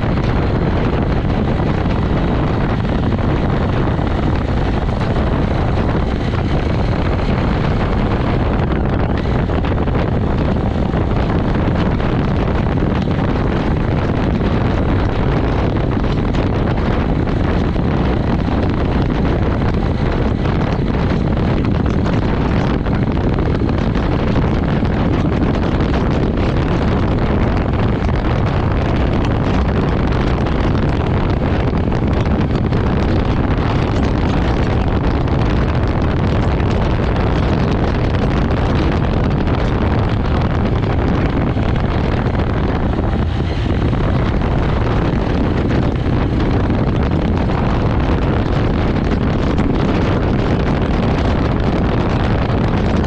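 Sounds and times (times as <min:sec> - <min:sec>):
motorcycle engine rumble: 0:00.0 - 0:53.0
wind buffeting microphone: 0:00.0 - 0:53.0.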